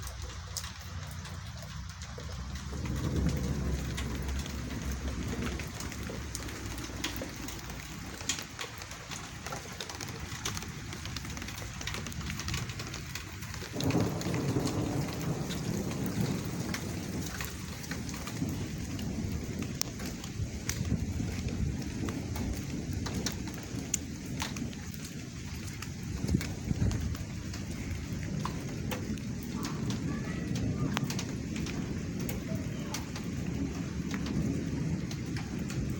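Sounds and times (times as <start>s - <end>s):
low thunder rumbling: 0.0s - 35.9s
raindrops ticking on surface: 0.0s - 35.9s
steady rain: 0.0s - 35.9s.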